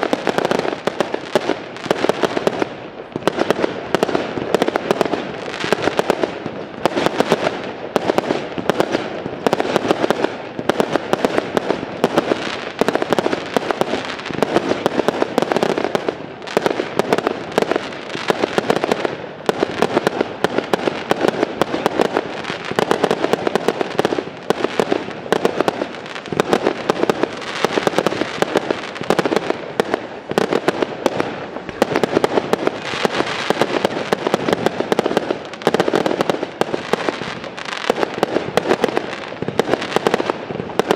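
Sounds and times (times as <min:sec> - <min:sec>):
fireworks launching and bursting: 0:00.0 - 0:40.9.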